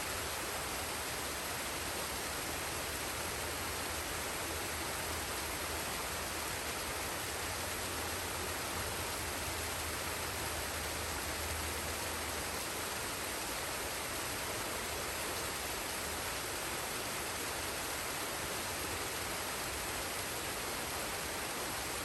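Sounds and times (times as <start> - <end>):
waterfall and stream rushing: 0.0 - 22.0.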